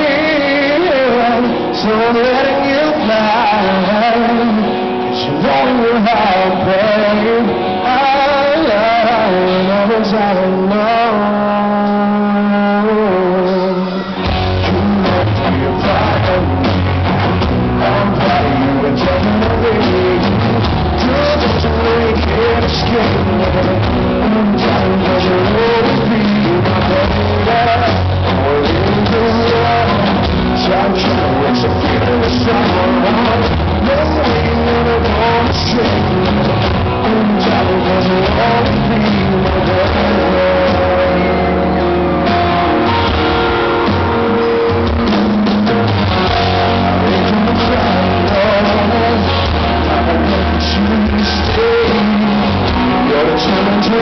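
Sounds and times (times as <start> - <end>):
drum kit: 0.0 - 54.0
electric guitar: 0.0 - 54.0
person singing: 0.0 - 54.0.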